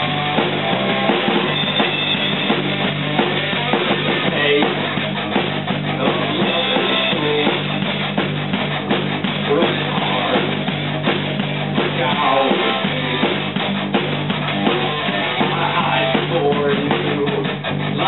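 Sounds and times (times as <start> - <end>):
drum kit: 0.0 - 18.0
electric guitar: 0.0 - 18.0.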